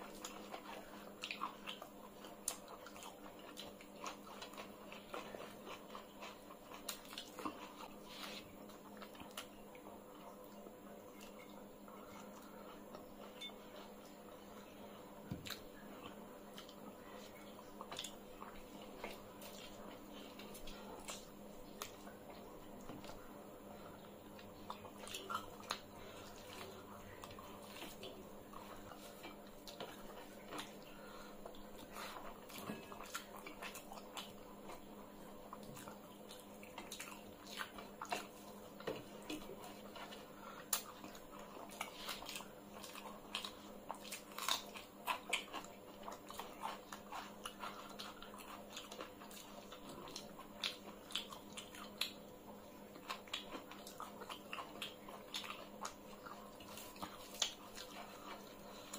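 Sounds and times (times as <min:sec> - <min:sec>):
people eating with wet chewing: 0:00.0 - 0:58.9.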